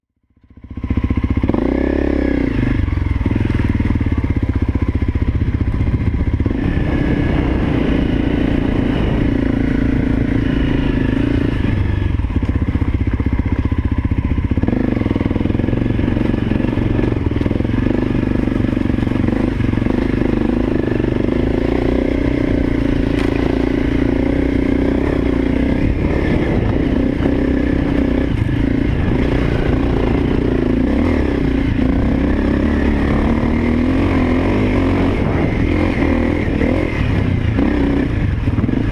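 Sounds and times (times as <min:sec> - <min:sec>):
dirt bike engine revving: 0:00.6 - 0:38.9
steady low rumble: 0:02.8 - 0:38.9.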